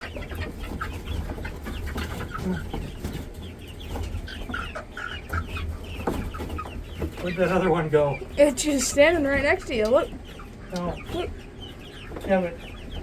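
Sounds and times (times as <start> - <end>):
poultry clucking and calling: 0.0 - 13.0.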